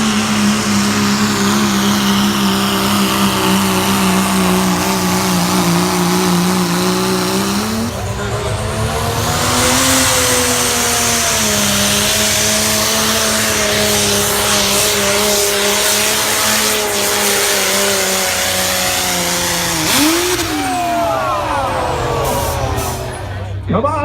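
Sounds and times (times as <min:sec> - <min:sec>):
engine at full throttle: 0:00.0 - 0:23.7.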